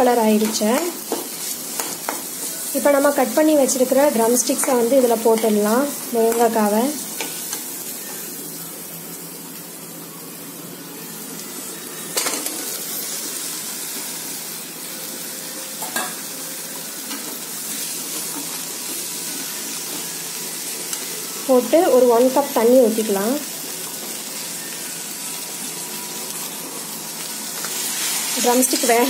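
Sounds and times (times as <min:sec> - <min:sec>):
shallots sizzling in hot oil: 0:00.0 - 0:29.0.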